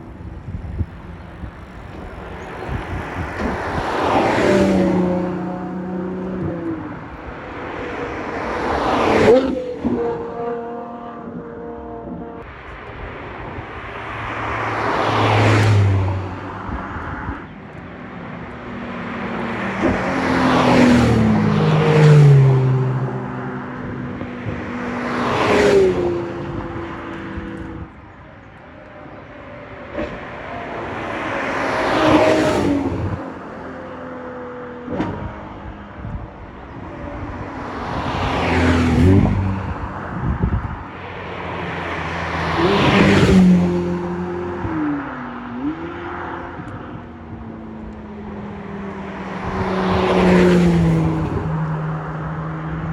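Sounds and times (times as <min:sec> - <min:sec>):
sports cars driving past: 0:00.0 - 0:52.9.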